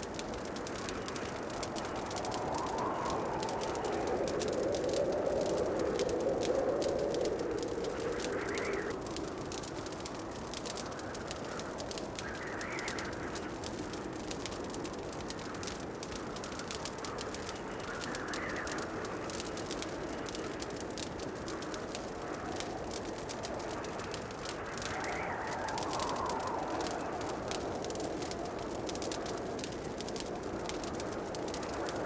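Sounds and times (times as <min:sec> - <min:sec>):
fire crackling: 0:00.0 - 0:32.0.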